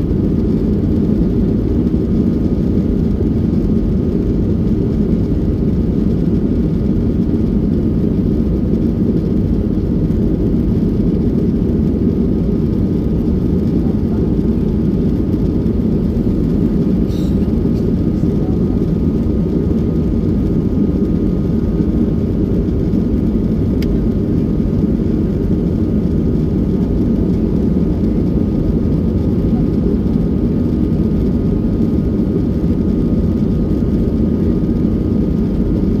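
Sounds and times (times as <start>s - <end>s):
airplane cabin rumble: 0.0s - 36.0s.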